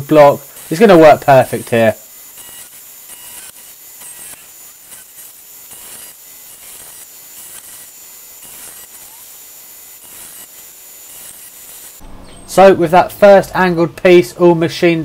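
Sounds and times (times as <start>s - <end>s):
milling machine cutting metal: 0.0s - 12.8s.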